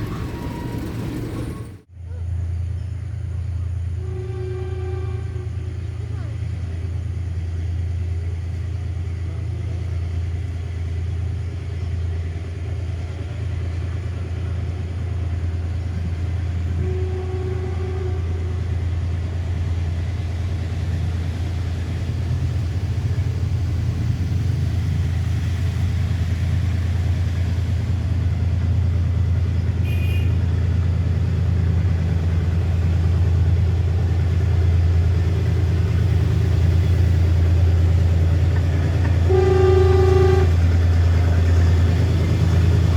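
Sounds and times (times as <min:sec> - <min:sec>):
diesel locomotive engine droning: 0:00.0 - 0:42.9.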